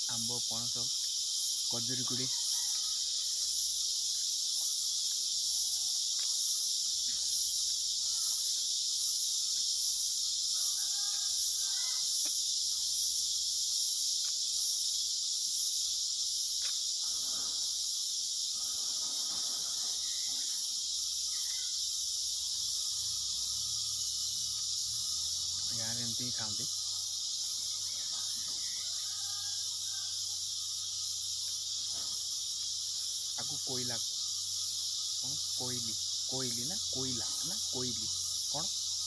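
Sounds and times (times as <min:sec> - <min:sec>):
insect chorus buzzing: 0:00.0 - 0:39.0.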